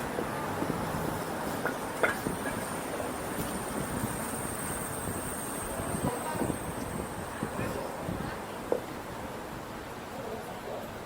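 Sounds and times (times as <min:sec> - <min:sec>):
wind buffeting microphone: 0:00.0 - 0:09.8
passing traffic: 0:00.0 - 0:11.0.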